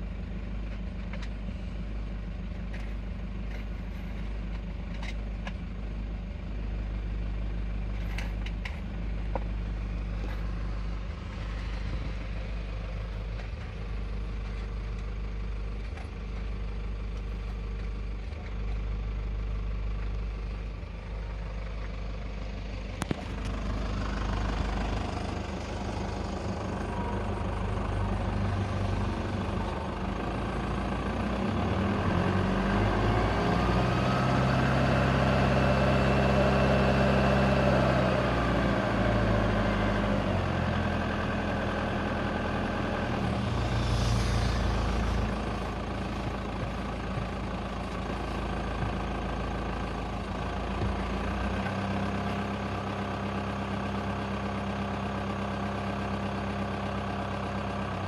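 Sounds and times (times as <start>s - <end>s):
diesel engine idling with clatter: 0.0s - 58.0s.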